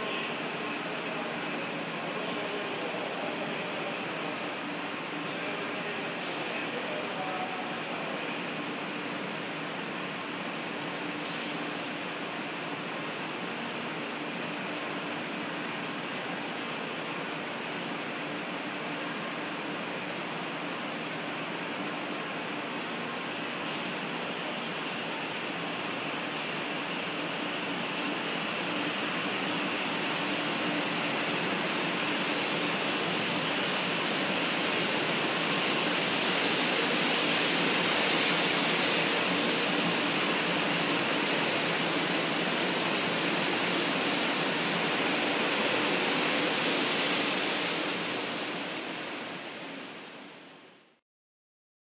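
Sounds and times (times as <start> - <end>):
train rushing past platform: 0.0 - 50.6.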